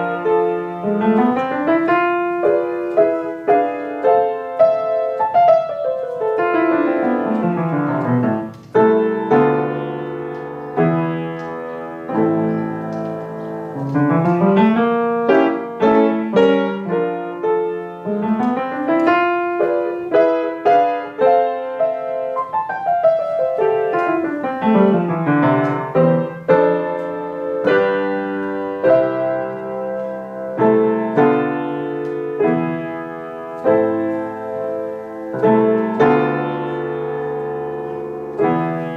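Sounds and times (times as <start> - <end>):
solo piano melody: 0.0 - 38.9.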